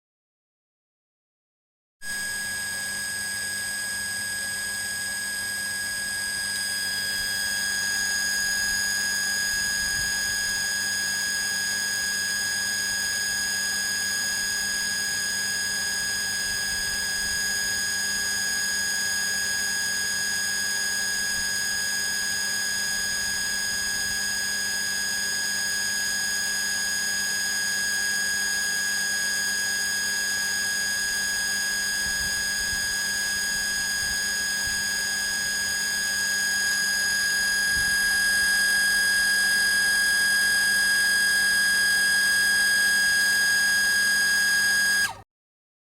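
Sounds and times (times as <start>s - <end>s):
electric water pump whining: 2.1s - 45.2s.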